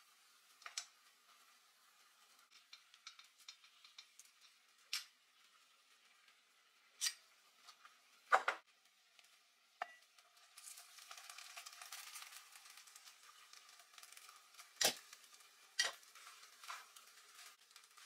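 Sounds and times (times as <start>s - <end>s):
spaghetti sizzling in sauce: 0.0s - 18.0s.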